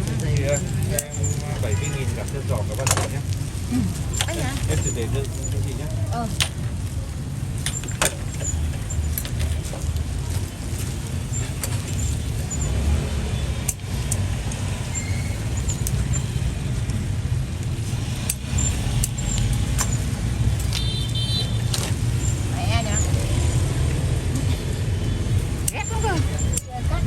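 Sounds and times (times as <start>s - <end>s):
low rumble of street traffic: 0.0s - 27.0s.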